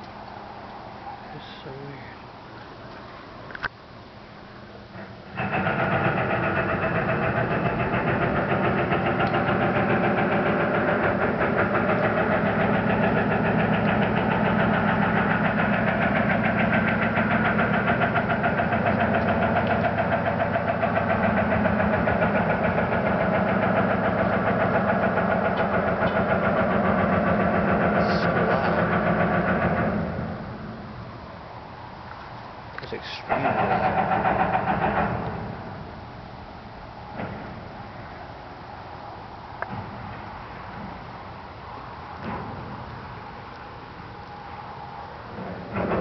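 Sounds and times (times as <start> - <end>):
mechanical rumbling drone: 0.0 - 46.0.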